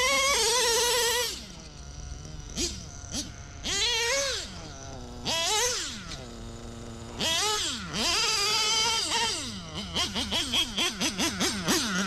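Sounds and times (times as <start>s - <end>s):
nitro engine revving whine: 0.0s - 12.0s.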